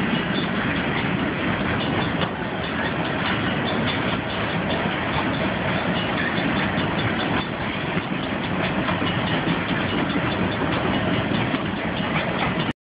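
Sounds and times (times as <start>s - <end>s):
freight train rumbling past: 0.0s - 12.7s
wheels clicking over rail joints: 0.0s - 12.7s.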